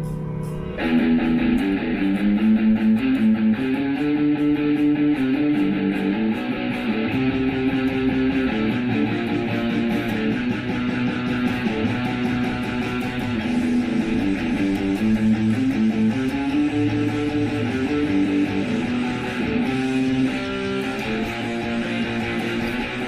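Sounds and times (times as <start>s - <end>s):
electric guitar strummed chords: 0.0s - 23.0s.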